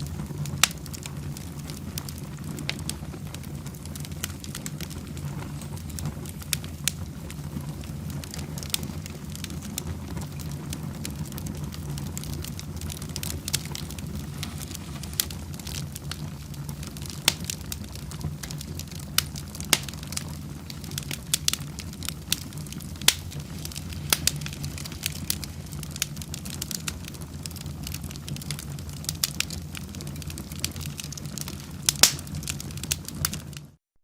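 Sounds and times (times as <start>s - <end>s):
fireplace fire crackling and popping: 0.0s - 33.8s.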